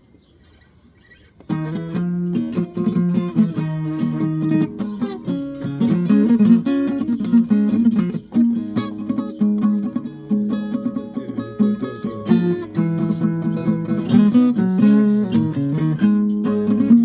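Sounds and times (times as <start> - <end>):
acoustic guitar picking: 1.2 - 17.0.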